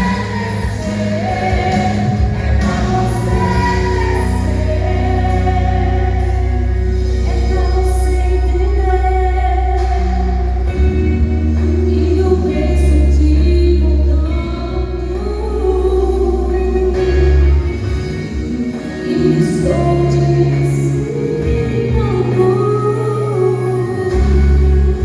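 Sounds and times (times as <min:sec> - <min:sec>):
amplified accompaniment with bass: 0:00.0 - 0:25.0
group singing worship song: 0:00.0 - 0:25.0
woman singing: 0:00.0 - 0:25.0.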